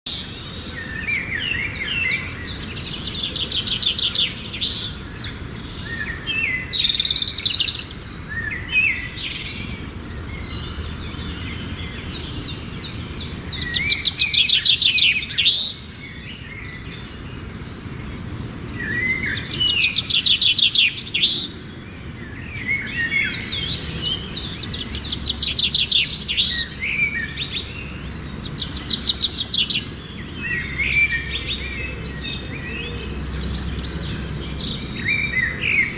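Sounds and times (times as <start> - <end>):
small birds chirping: 0.1 - 35.9.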